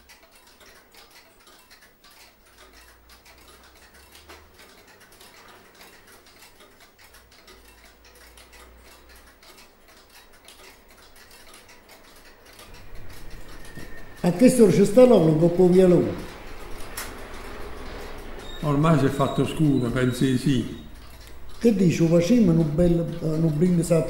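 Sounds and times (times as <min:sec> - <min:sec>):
faint rapid ticking: 0:00.0 - 0:24.0.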